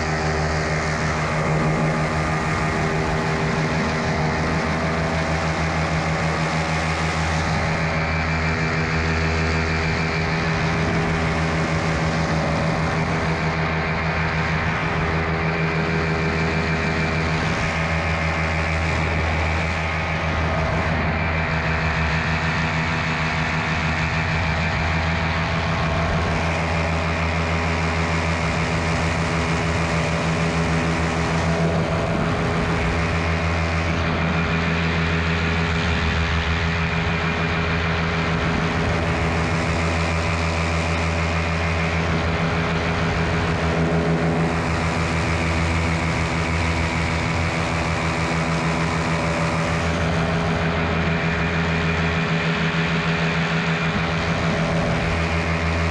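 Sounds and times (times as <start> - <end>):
paramotor engine and propeller: 0.0 - 55.9.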